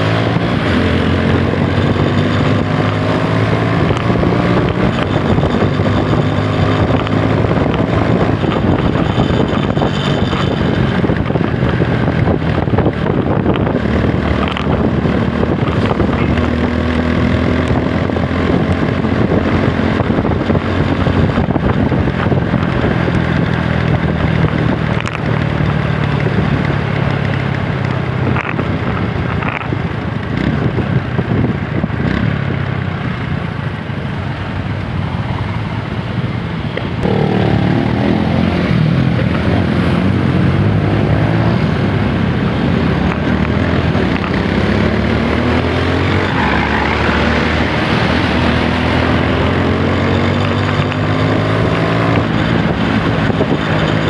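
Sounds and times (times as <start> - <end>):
motorcycle engine revving: 0.0 - 33.1, 36.8 - 54.0
road and wind noise: 0.0 - 54.0.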